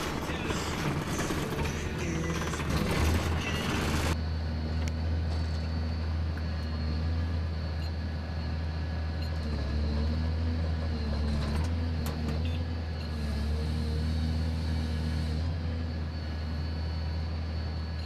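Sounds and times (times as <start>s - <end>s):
heavy engine humming: 0.0s - 18.0s.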